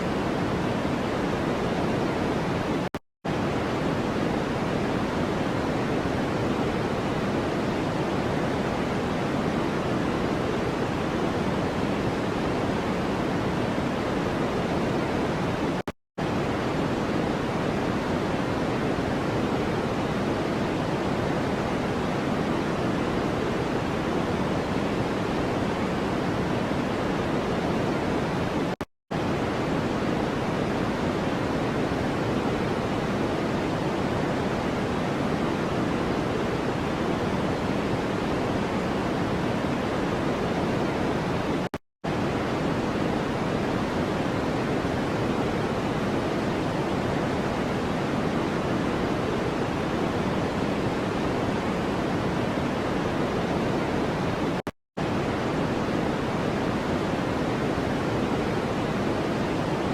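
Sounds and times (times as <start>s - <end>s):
low white noise hiss: 0.0s - 59.9s.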